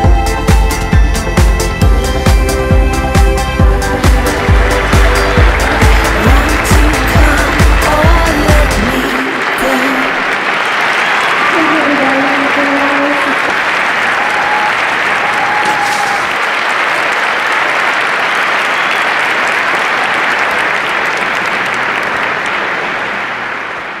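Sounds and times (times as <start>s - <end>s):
audience applauding and cheering: 0.0s - 24.0s.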